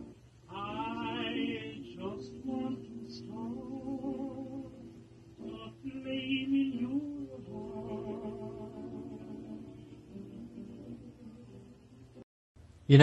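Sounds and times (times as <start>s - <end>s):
person singing with vibrato: 0.4s - 12.2s.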